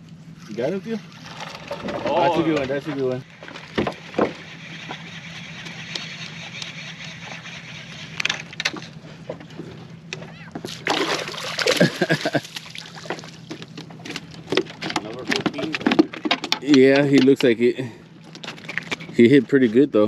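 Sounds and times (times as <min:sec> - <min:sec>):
steady low hum: 0:00.0 - 0:20.0
water splashing and sloshing: 0:00.9 - 0:17.4.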